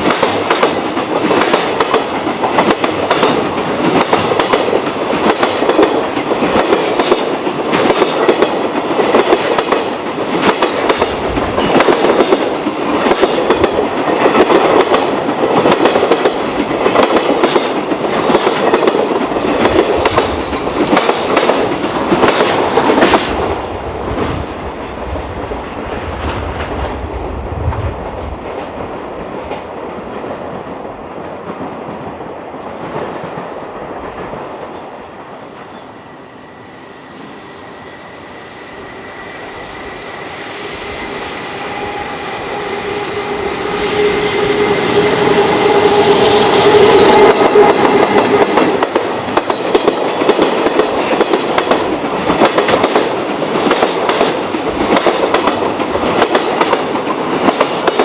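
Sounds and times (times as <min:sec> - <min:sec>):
electric train rolling on track: 0:00.0 - 0:58.0.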